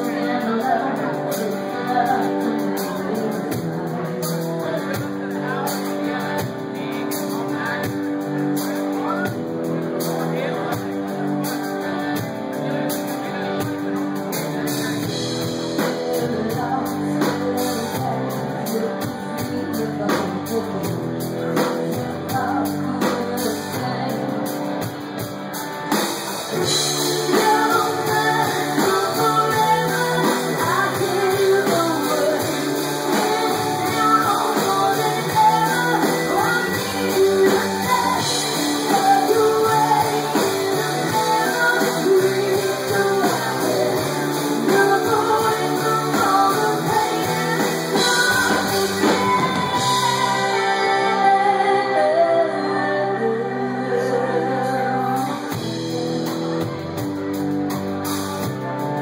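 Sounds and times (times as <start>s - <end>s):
woman singing: 0.0s - 9.4s, 14.7s - 25.2s, 26.4s - 56.4s
drums: 0.0s - 59.0s
electric guitar: 0.0s - 59.0s.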